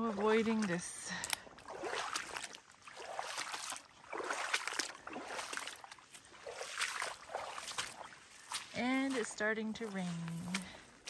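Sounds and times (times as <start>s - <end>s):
footsteps sloshing through water: 0.0s - 11.0s.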